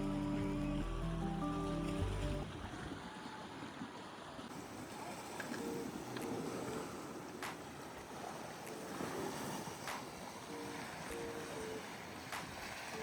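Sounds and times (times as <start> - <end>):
sea water washing: 0.0 - 13.0.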